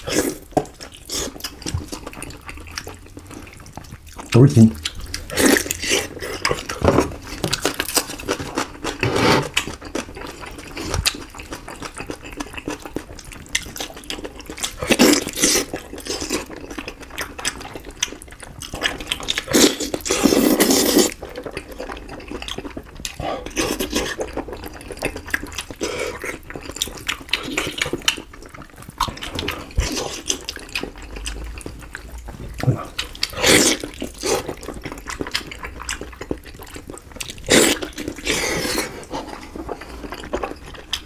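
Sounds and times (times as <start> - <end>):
wet chewing and lip-smacking: 0.0 - 41.0.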